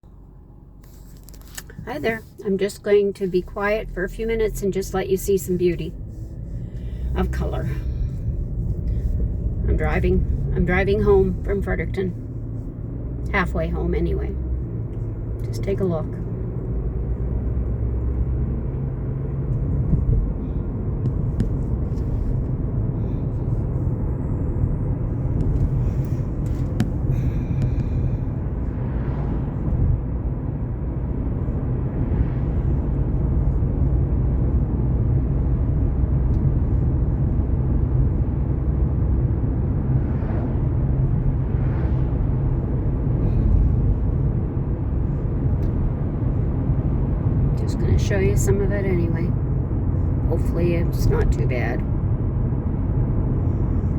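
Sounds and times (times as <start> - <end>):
car engine and tyre noise: 0.0 - 53.9.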